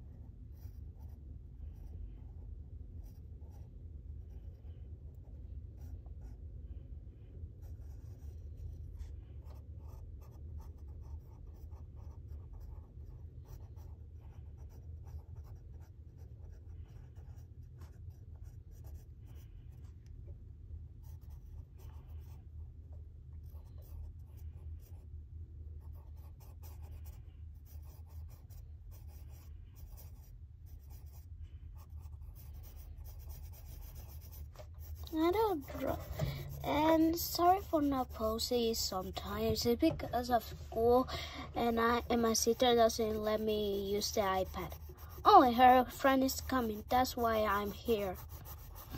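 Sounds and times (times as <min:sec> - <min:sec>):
low steady hum: 0:00.0 - 0:48.9
pencil scratching on paper: 0:00.4 - 0:02.4, 0:03.0 - 0:06.5, 0:07.6 - 0:19.9, 0:21.0 - 0:22.6, 0:23.3 - 0:25.1, 0:25.7 - 0:48.9.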